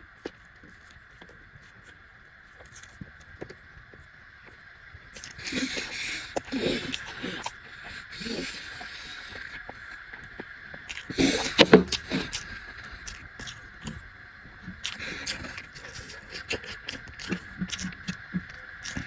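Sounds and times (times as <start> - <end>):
chewing with crackles: 0.0 - 19.0
faint steady hum: 0.0 - 19.0.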